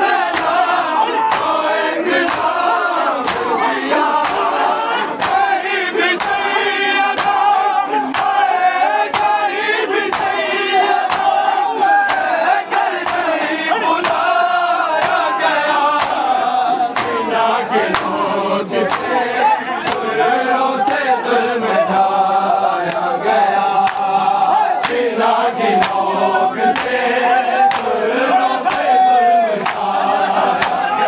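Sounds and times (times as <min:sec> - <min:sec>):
men chanting a lament: 0:00.0 - 0:31.0
rhythmic chest-beating: 0:00.0 - 0:31.0.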